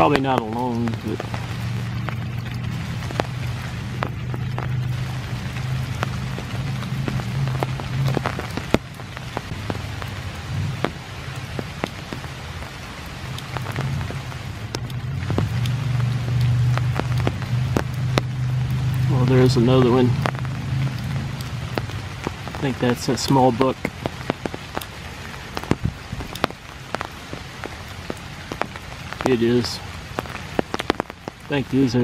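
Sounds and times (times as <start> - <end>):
drops tapping close by: 0.0 - 12.7, 13.3 - 31.6
low rumble: 0.0 - 28.7
heavy rain through trees: 0.0 - 32.0.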